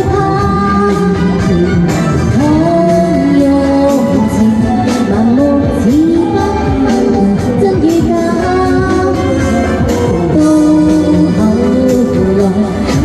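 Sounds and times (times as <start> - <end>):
pop song with sliding melody: 0.0 - 13.0.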